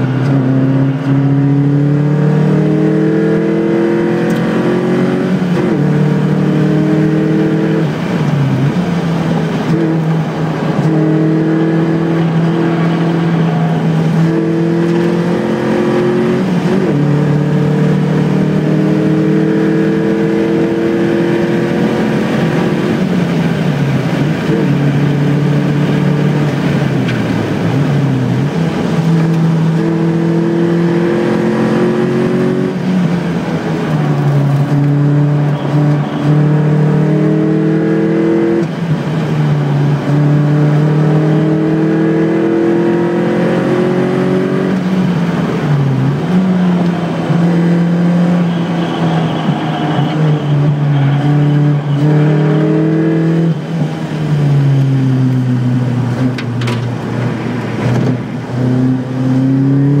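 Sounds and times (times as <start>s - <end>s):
race car engine accelerating: 0.0s - 60.0s.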